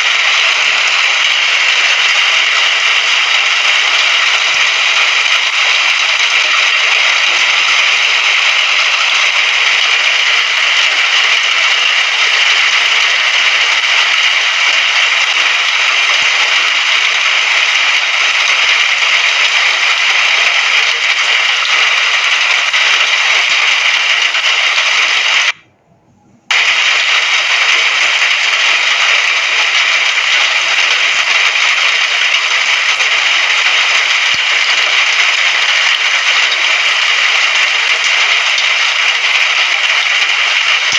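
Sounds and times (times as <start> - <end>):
steady rain hiss: 0.0 - 25.6, 26.5 - 40.9.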